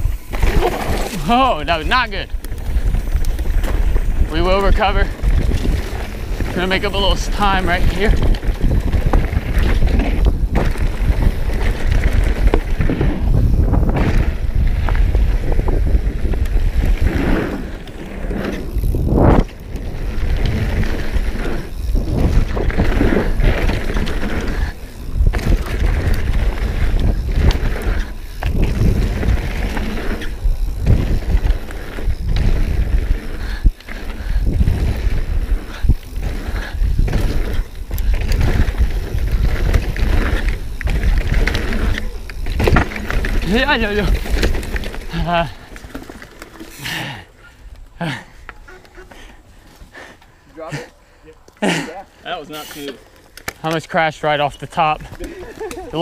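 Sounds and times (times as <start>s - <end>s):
bike rattling: 0.0s - 56.0s
bike tyre rolling noise: 0.0s - 56.0s.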